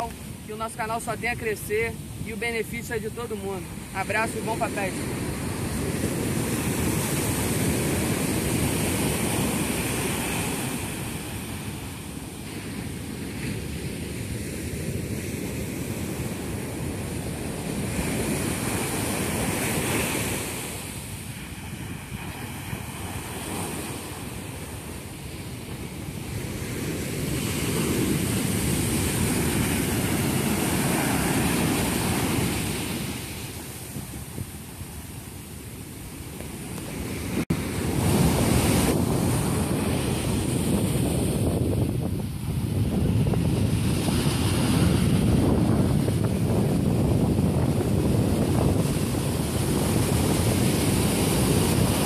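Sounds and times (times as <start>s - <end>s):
ocean surf breaking on beach: 0.0s - 52.0s.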